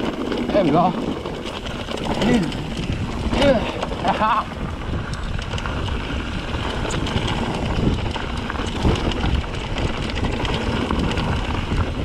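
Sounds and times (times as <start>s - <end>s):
bike clattering over rocks: 0.0s - 12.0s
wind buffeting microphone: 0.0s - 12.0s.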